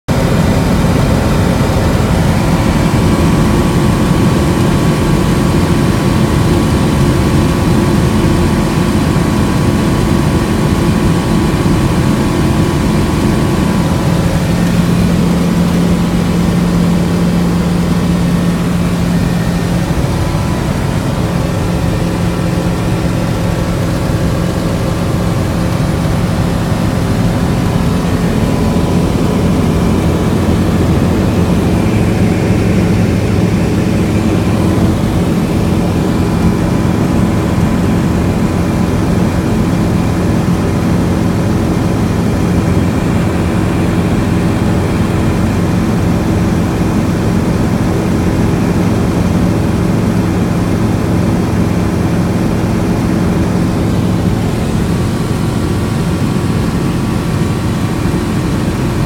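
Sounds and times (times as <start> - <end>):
propeller engine running: 0.0 - 59.0.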